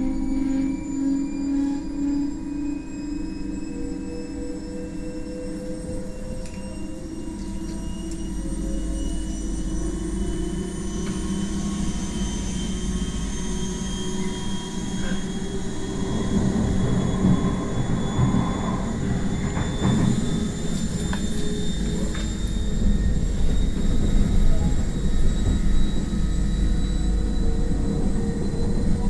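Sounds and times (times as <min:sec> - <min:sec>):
electric train traction whine: 0:00.0 - 0:29.0.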